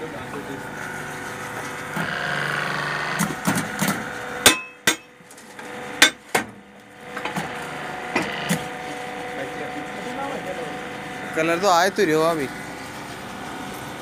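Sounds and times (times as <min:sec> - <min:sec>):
electric motor hum: 0:00.0 - 0:04.5, 0:05.1 - 0:14.0.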